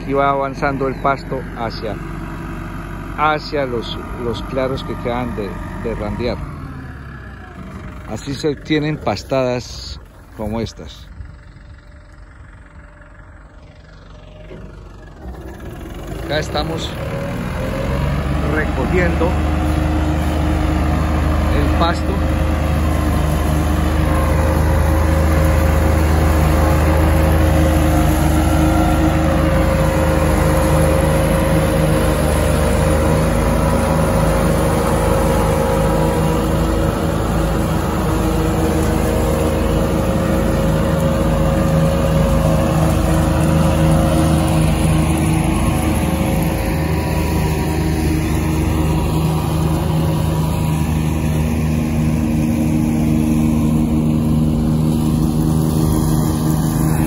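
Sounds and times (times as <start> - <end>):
forage harvester chopper whirring: 0.0 - 57.0
tractor engine running under load: 0.0 - 57.0.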